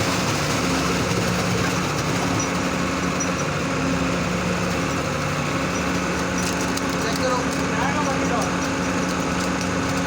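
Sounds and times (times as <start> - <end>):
concrete pouring: 0.0 - 10.0
diesel truck engine running: 0.0 - 10.0.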